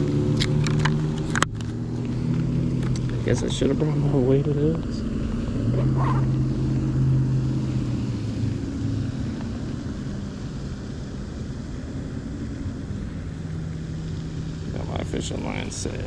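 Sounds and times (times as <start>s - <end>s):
distant engine droning: 0.0s - 16.0s.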